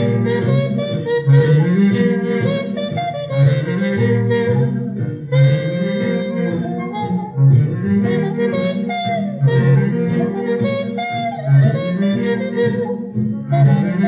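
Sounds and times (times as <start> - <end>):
swing jazz band playing: 0.0 - 14.0.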